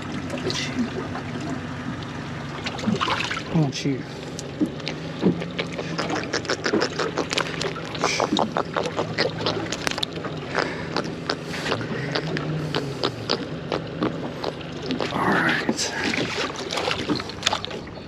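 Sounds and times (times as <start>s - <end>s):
steady low hum: 0.0s - 18.0s
water slapping against boat hull: 0.0s - 18.0s.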